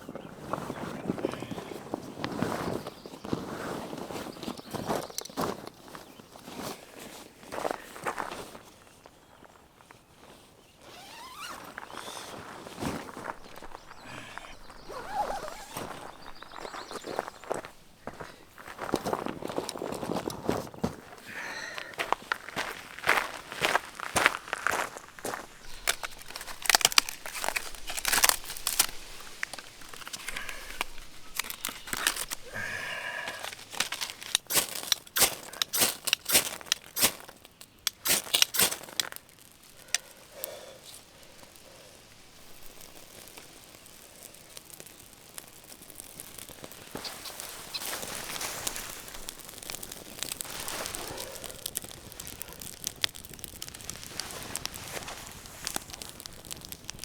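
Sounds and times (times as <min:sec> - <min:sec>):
gear rustling and crinkling: 0:00.0 - 0:57.0.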